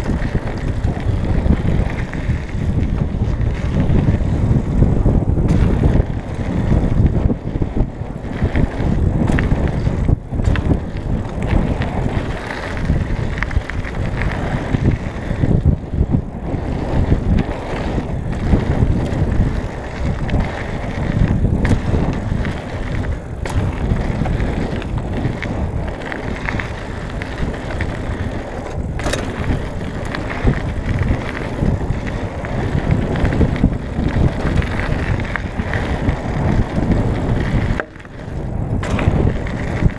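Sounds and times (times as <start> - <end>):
bike knocking over bumps: 0.0 - 39.9
bike tyres on gravel: 0.0 - 39.9.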